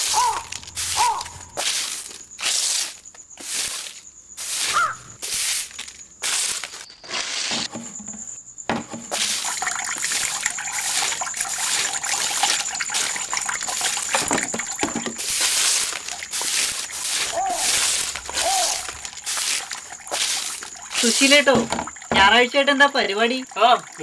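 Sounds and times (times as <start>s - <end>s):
broom sweeping concrete: 0.0s - 8.0s, 9.1s - 21.6s.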